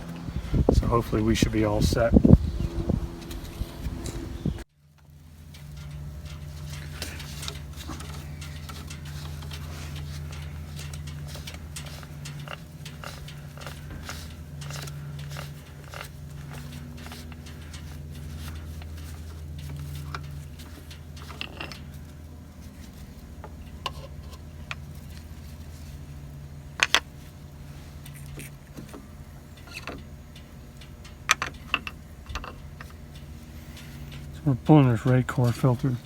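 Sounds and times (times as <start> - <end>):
steady low hum: 0.0 - 36.0
tools and metal fittings clinking: 3.2 - 36.0.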